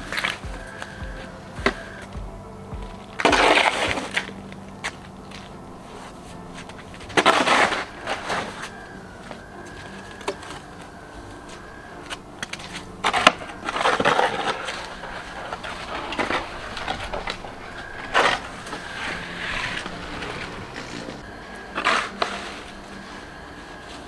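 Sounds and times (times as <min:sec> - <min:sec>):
snow crunching: 0:00.0 - 0:24.0.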